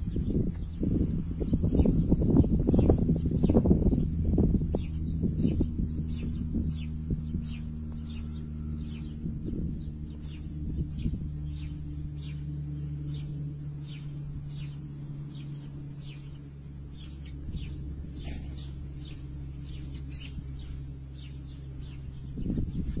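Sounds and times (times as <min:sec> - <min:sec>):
small bird chirping: 0:00.0 - 0:23.0
steady low hum: 0:00.0 - 0:23.0.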